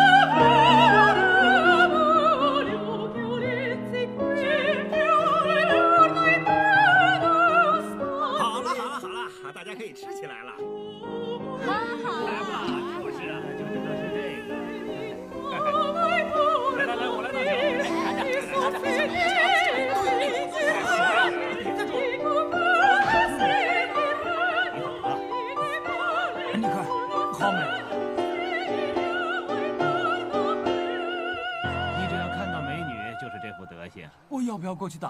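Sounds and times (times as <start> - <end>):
operatic singing voice: 0.0 - 9.8, 10.5 - 33.5
sustained musical accompaniment: 0.0 - 34.4.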